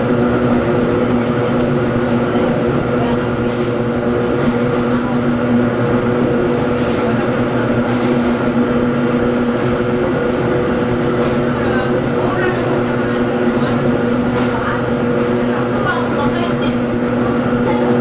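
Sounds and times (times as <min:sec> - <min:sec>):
electric motor and gear hum: 0:00.0 - 0:18.0.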